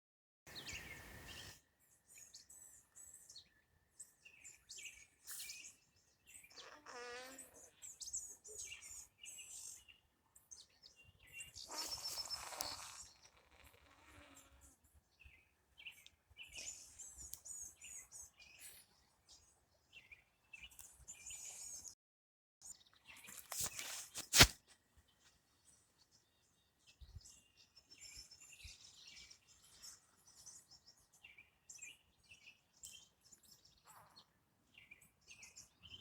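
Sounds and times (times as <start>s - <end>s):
small birds chirping: 0.5s - 22.0s, 22.6s - 24.4s, 25.0s - 36.0s.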